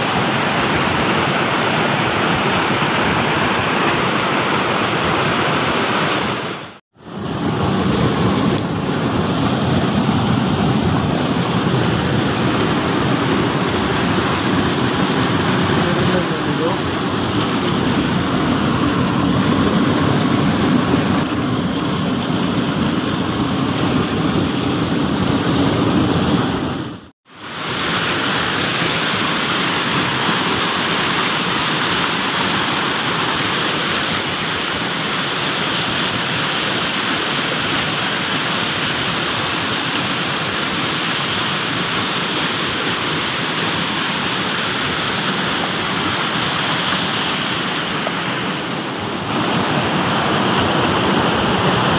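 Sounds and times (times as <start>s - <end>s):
stream rushing over rocks: 0.0s - 51.9s.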